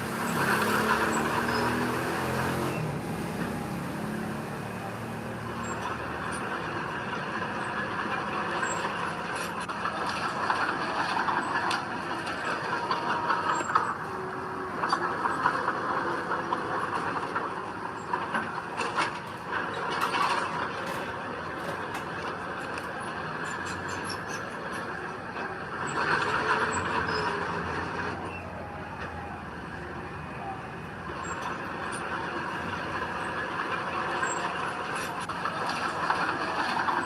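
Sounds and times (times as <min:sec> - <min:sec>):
diesel engine running under load: 0:00.0 - 0:37.0
metallic clanks and squeaks: 0:00.0 - 0:37.0.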